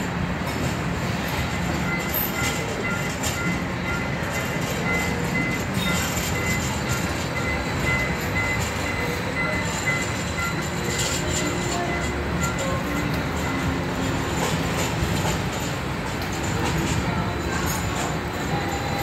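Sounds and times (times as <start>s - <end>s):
streetcar wheels rumbling on rail: 0.0s - 19.0s.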